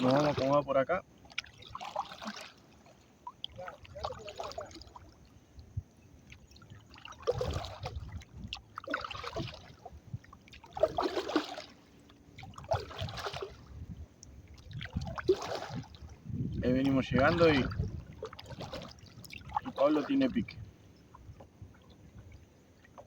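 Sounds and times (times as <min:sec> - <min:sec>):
paddle splashing water: 0:00.0 - 0:23.0.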